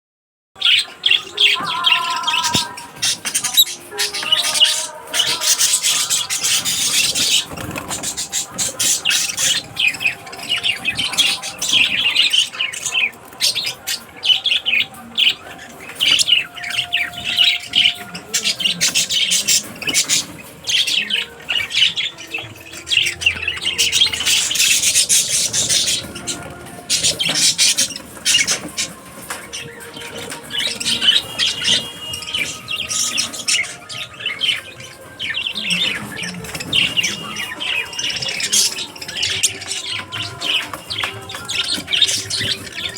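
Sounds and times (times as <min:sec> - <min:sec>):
parrots chattering and squawking: 0:00.6 - 0:42.9.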